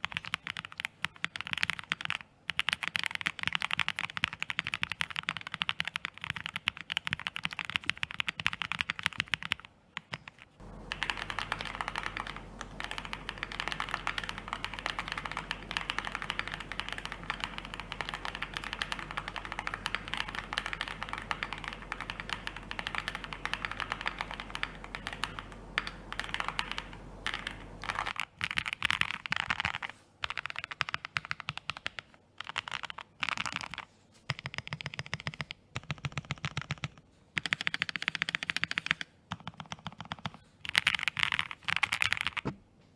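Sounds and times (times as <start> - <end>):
fast typing on keyboard: 0.0 - 42.6.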